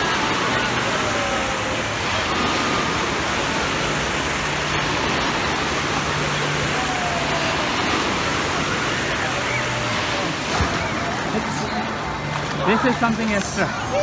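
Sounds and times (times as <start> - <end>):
distant people shouting: 0.0 - 11.9
water rushing and breaking: 0.0 - 14.0.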